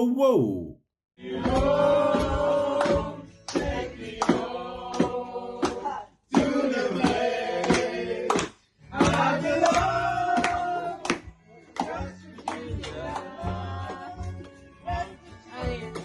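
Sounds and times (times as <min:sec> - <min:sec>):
voices singing together: 0:01.2 - 0:16.0.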